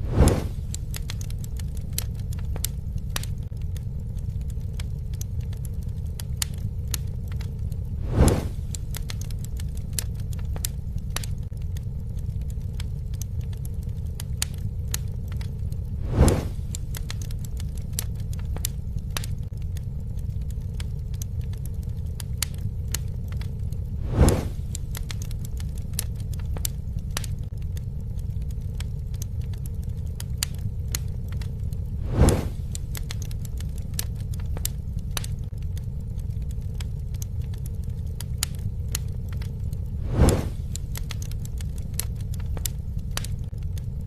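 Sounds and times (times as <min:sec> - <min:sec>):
campfire crackling and roaring: 0:00.0 - 0:44.0
low rumble of flames: 0:00.0 - 0:44.0.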